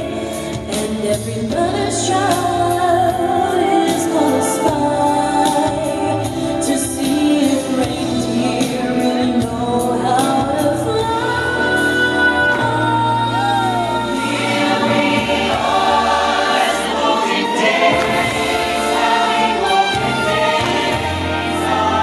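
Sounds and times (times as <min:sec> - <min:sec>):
christmas music with singing: 0:00.0 - 0:22.0.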